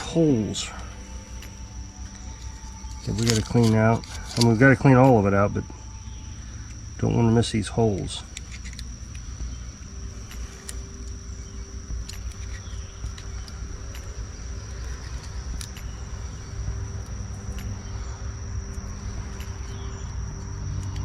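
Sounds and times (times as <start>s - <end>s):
insects droning: 0.0s - 21.0s
low rumble: 0.0s - 21.0s
small sharp clicks: 0.8s - 5.2s, 8.0s - 21.0s.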